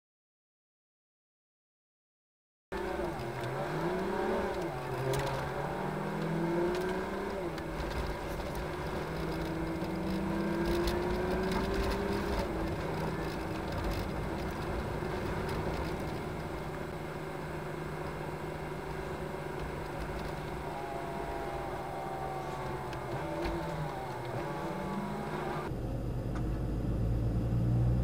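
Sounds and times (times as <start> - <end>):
truck diesel engine accelerating: 2.7 - 28.0.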